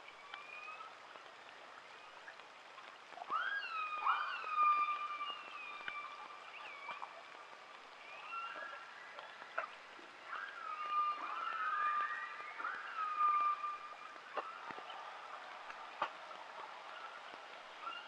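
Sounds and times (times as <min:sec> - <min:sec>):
water noise hiss: 0:00.0 - 0:18.0.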